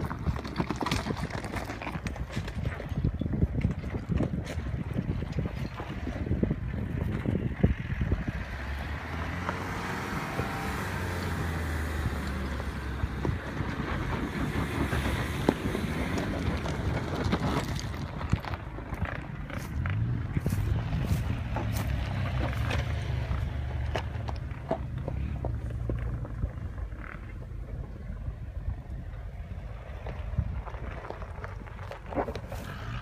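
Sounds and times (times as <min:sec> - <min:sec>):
diesel engine under load: 0:00.0 - 0:33.0
tyres crunching on loose stones: 0:00.0 - 0:33.0.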